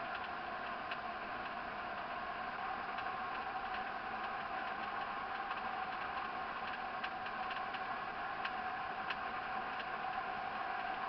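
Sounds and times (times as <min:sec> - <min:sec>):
faint ticks: 0:00.0 - 0:02.1, 0:02.9 - 0:11.0
car interior highway drone: 0:00.0 - 0:11.0.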